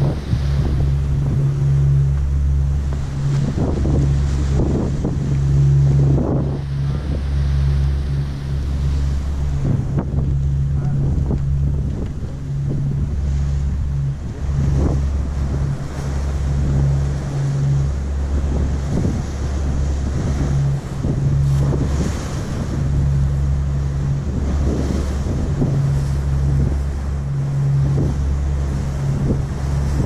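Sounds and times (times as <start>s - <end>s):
rush of sea water: 0.0s - 30.0s
wind buffeting microphone: 0.0s - 30.0s.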